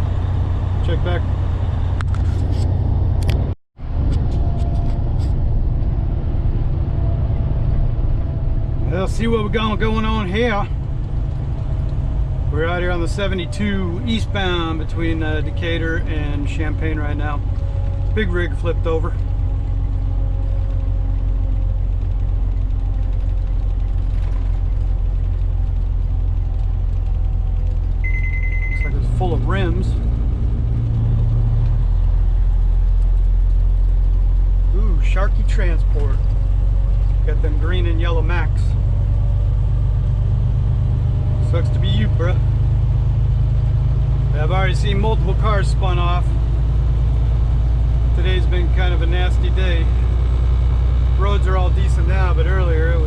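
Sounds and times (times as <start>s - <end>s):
truck engine and road drone: 0.0s - 53.0s.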